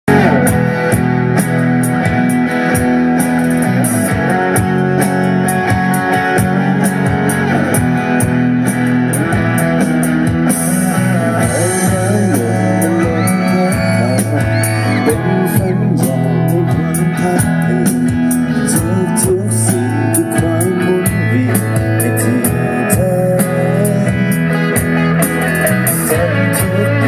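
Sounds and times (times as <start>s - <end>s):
live rock band playing: 0.1s - 27.0s.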